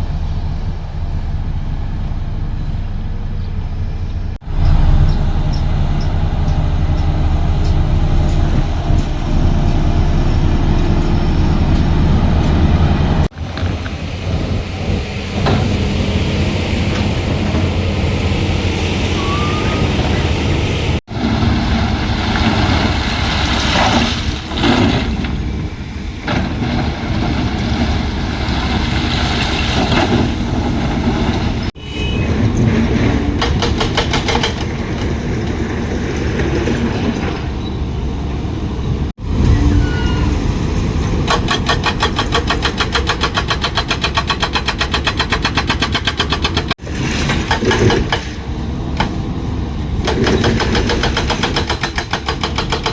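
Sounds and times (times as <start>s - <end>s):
heavy machinery engines running: 0.0s - 23.8s, 24.4s - 52.9s.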